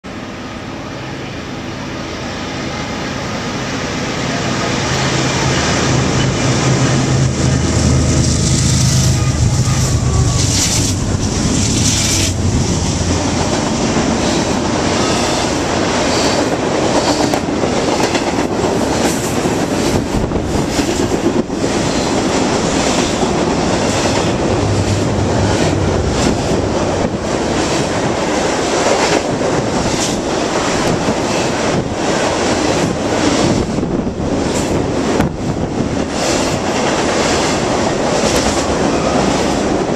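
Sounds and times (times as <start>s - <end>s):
locomotive engine drone: 0.1s - 39.9s
train wheels rolling on rails: 1.5s - 39.9s.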